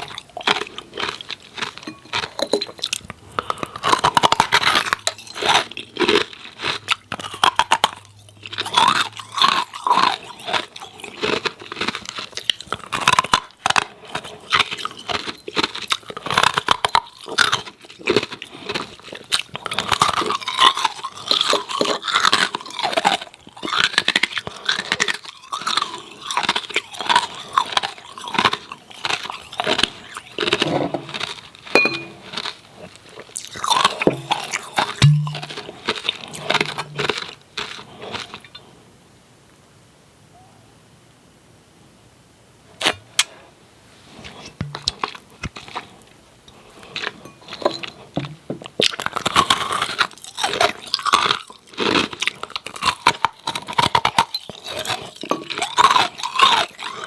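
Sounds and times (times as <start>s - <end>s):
ice cubes being chewed: 0.0s - 38.8s, 44.2s - 57.0s.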